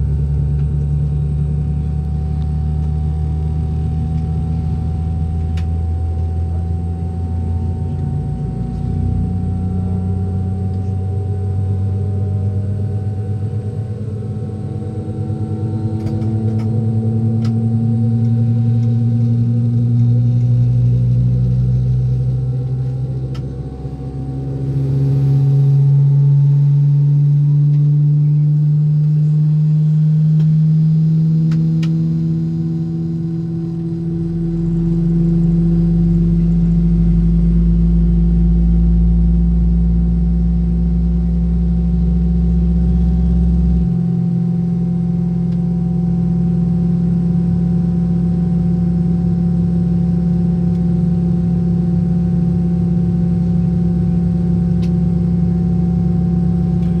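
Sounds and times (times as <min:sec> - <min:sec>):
airliner engines droning: 0:00.0 - 0:57.0
deep engine rumble: 0:00.0 - 0:57.0.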